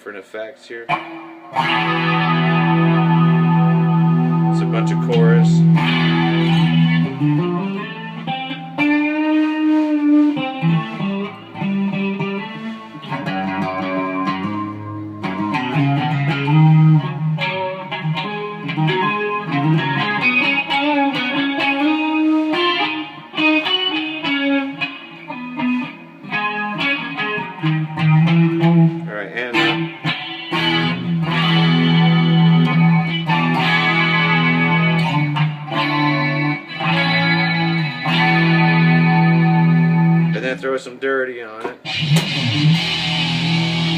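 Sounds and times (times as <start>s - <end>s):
clean electric guitar with chorus: 0.8s - 41.0s, 41.6s - 43.9s.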